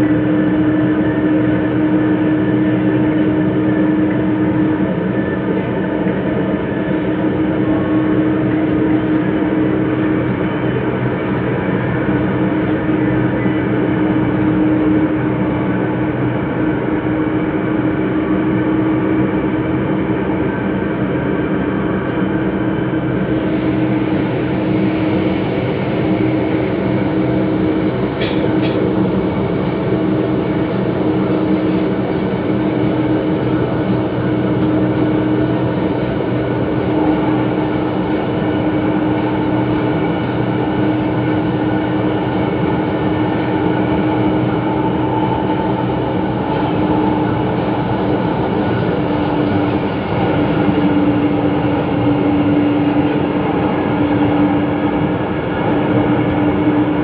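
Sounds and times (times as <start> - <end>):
train wheels rumbling on rail: 0.0 - 57.0
train whine: 0.0 - 57.0.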